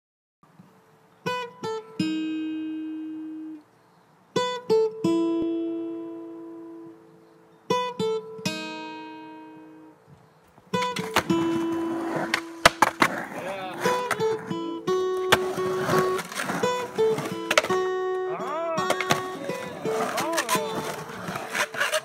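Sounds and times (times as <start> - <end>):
acoustic guitar plucked notes: 1.2 - 3.6, 4.4 - 10.0, 10.7 - 22.0.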